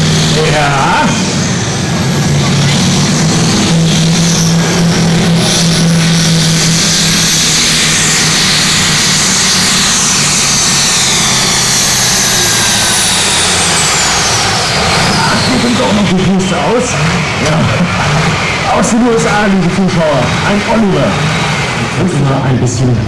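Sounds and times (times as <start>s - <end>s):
diesel tractor engine under load: 0.0s - 23.0s
high engine whine: 0.0s - 23.0s.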